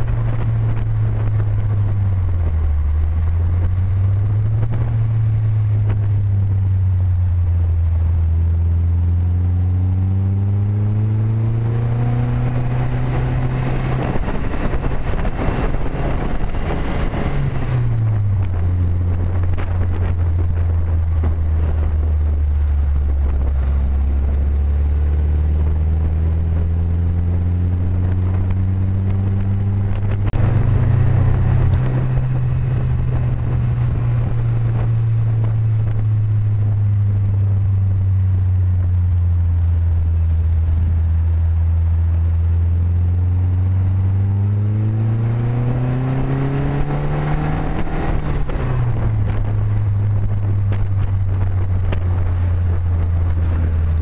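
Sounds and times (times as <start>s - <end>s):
road noise: 0.0s - 54.0s
sports car engine running: 0.0s - 54.0s.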